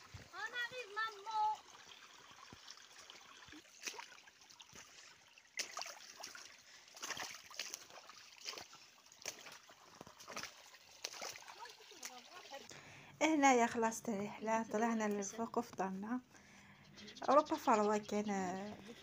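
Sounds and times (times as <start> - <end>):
stream trickling: 0.0 - 19.0.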